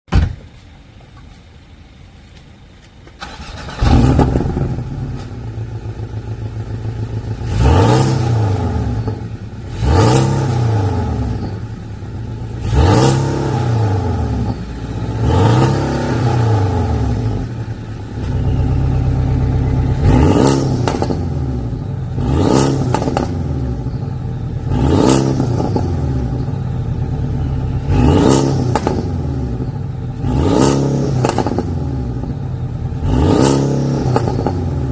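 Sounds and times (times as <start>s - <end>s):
car engine starting and revving: 3.2s - 34.9s.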